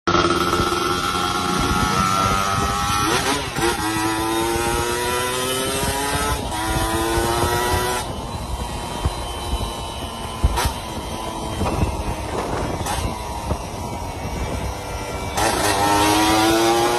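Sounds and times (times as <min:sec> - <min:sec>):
motorcycle engine accelerating: 0:00.1 - 0:16.9.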